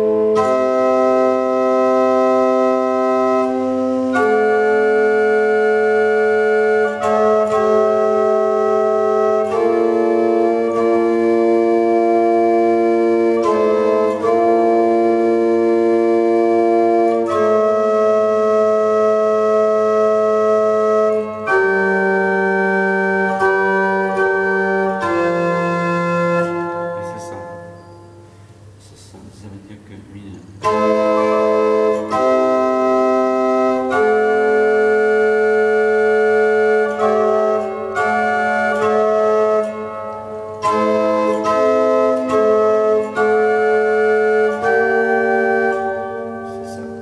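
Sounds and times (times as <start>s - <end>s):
organ playing sustained chords: 0.0s - 47.0s.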